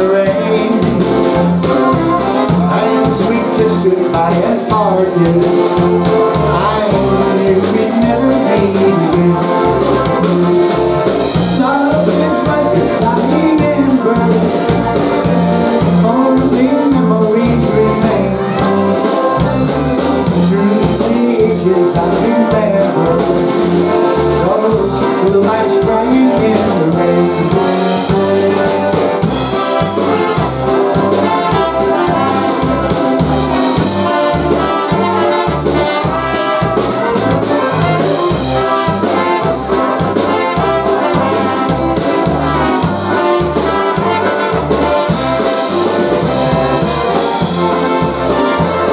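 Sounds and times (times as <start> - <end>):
polka band playing: 0.0 - 48.9.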